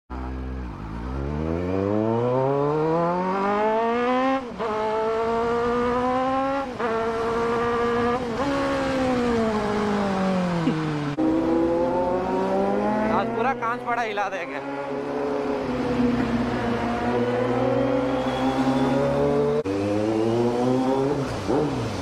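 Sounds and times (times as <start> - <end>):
motorcycle engine revving: 0.1 - 22.0.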